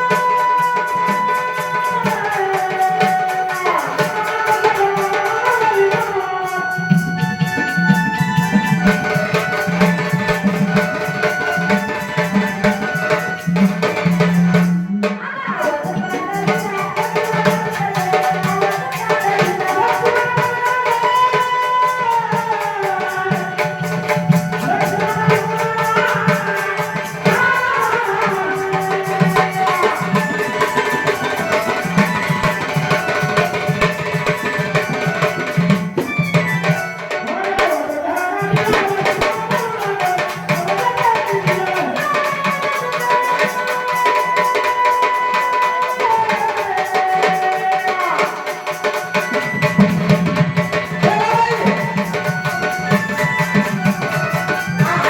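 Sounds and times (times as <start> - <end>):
woman singing: 0.0 - 14.1, 15.0 - 55.0
jingling percussion: 0.0 - 55.0
tabla: 0.0 - 55.0.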